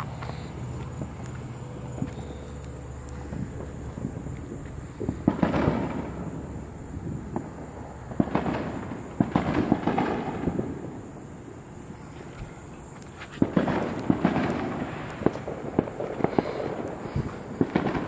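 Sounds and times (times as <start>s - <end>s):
fireworks bangs: 0.0s - 12.4s, 13.2s - 18.0s
firecrackers crackling: 0.0s - 18.0s.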